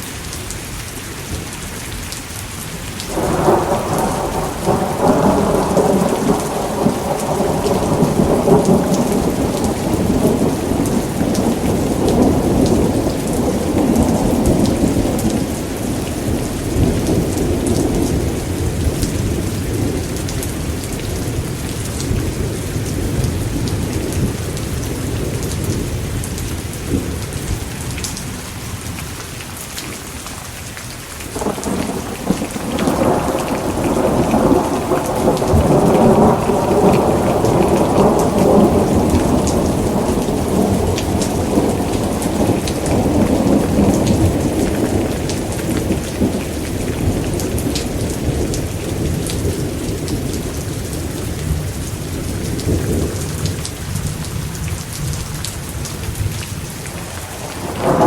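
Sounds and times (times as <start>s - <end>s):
heavy rain: 0.0s - 58.0s
rolling thunder: 3.1s - 27.7s, 31.3s - 58.0s.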